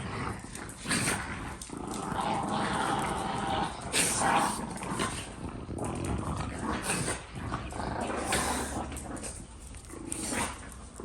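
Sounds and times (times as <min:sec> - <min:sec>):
dog growling: 0:00.0 - 0:11.0.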